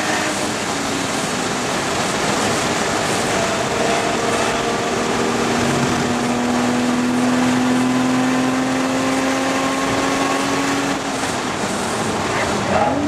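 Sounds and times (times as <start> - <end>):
car engine accelerating: 0.0 - 13.0
wind noise: 0.0 - 13.0.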